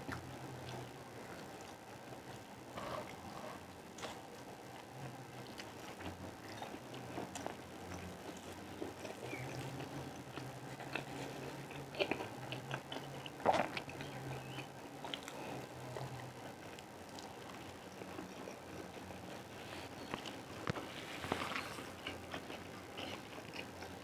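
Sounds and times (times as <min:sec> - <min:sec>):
low steady hum: 0:00.0 - 0:24.0
person chewing with wet smacks: 0:03.0 - 0:24.0.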